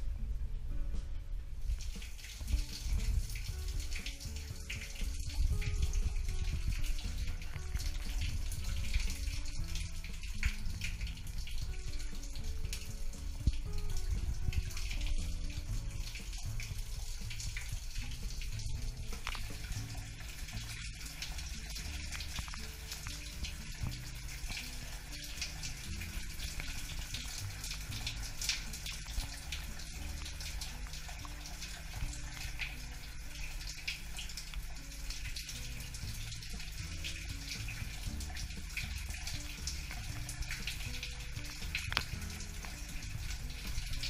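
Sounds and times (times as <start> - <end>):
background music: 0.0 - 44.0
shower water running: 1.6 - 44.0.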